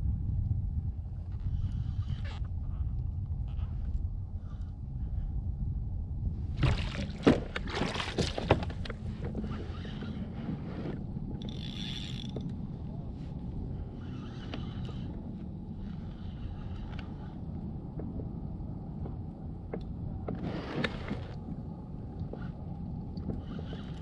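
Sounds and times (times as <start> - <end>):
wind and water rumble: 0.0 - 24.0.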